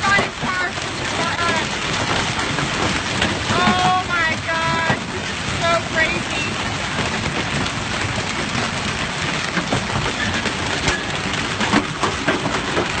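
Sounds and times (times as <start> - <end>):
heavy rain falling: 0.0 - 13.0
sharp raindrop impacts: 0.0 - 13.0.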